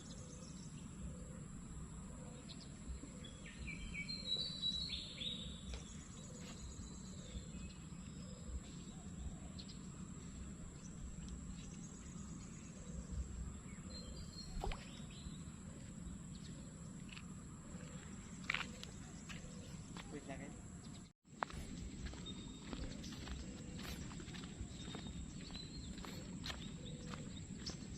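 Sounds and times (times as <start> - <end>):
faint bird chirps: 0.0 - 27.9
outdoor background noise: 0.0 - 27.9.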